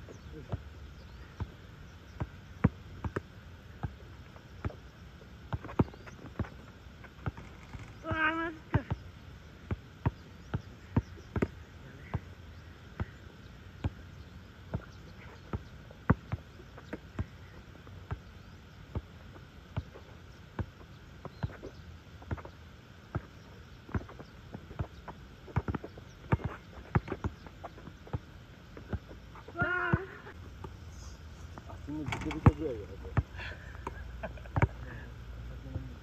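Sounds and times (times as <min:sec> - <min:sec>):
basketball bouncing on asphalt: 0:00.0 - 0:07.4, 0:08.0 - 0:13.2, 0:13.8 - 0:30.8, 0:31.6 - 0:34.9.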